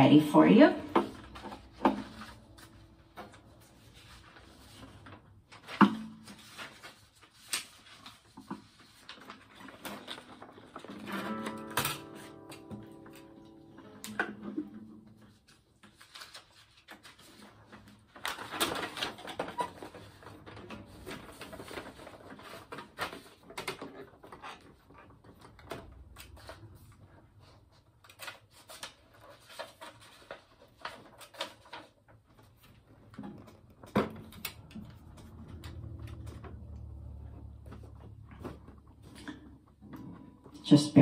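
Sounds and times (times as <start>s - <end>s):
paper shuffling: 0.8s - 13.6s, 15.0s - 39.4s.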